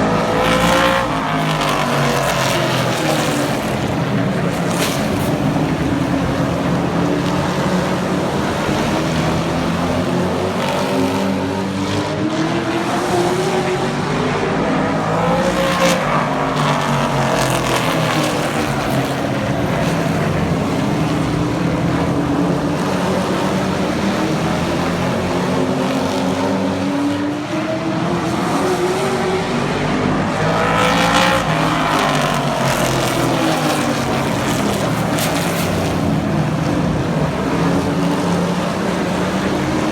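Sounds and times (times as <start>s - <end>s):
racing truck engines: 0.0s - 39.9s
trucks passing close by: 0.0s - 39.9s.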